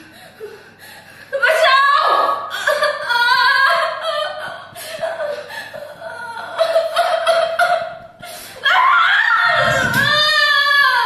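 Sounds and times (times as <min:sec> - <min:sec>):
young woman sobbing and wailing: 0:01.3 - 0:11.0.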